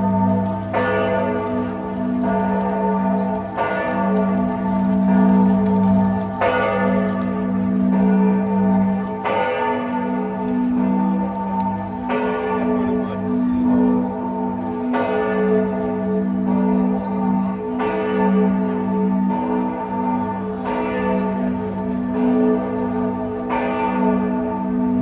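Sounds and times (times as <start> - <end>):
church bell tolling: 0.0 - 25.0.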